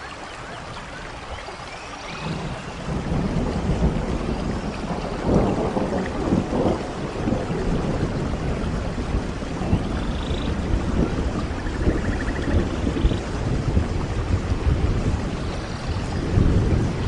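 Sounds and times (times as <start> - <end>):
steady rain: 0.0 - 17.0
rolling thunder: 2.1 - 17.0.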